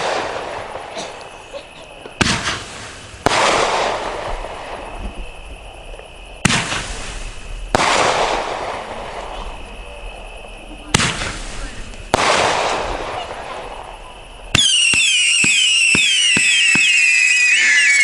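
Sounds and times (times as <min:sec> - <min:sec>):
firework shots with hissing tails: 0:00.0 - 0:18.0.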